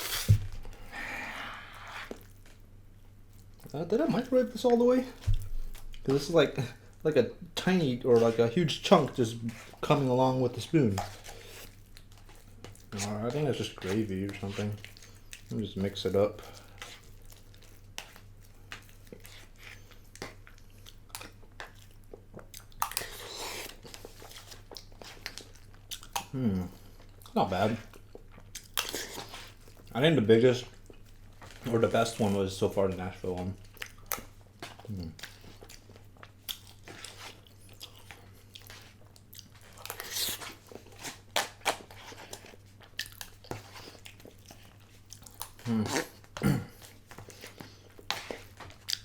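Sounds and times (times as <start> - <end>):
close-up chewing: 1.8 - 4.3, 7.8 - 49.0.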